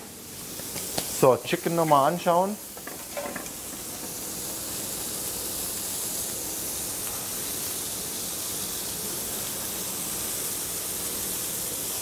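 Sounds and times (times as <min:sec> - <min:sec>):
chicken sizzling on grill: 0:00.0 - 0:12.0.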